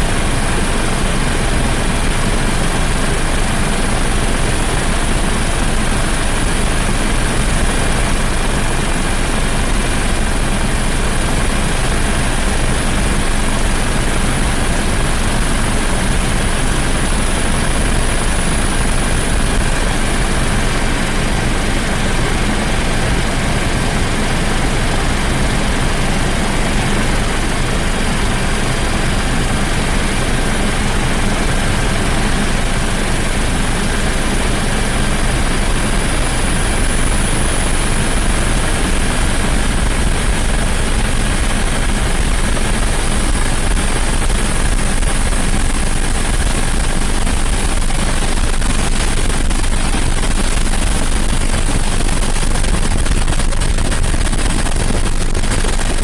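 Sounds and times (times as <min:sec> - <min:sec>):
helicopter rotor and turbine drone: 0:00.0 - 0:56.0.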